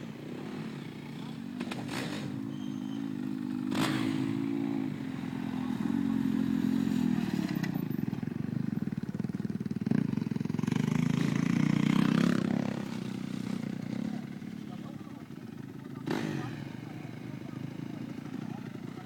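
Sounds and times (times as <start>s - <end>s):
motocross bike engine revving: 0.0s - 7.8s, 9.7s - 14.8s, 15.9s - 19.0s.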